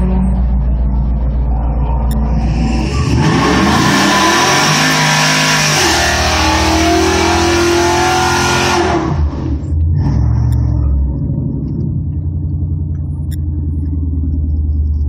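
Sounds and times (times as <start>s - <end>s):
truck engines revving at full throttle: 0.0s - 15.0s.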